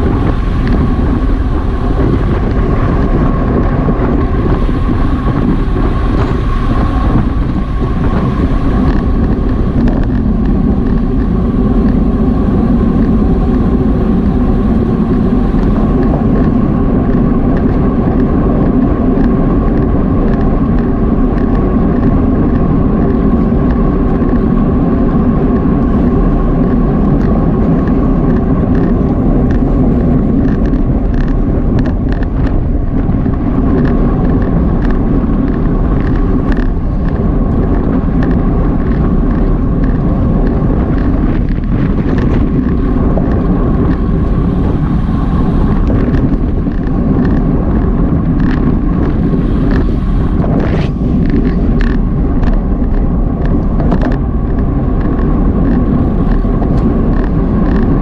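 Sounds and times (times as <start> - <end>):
road noise: 0.0 - 58.0
wind rush: 0.0 - 58.0
sharp ticks: 3.8 - 24.4, 25.5 - 58.0.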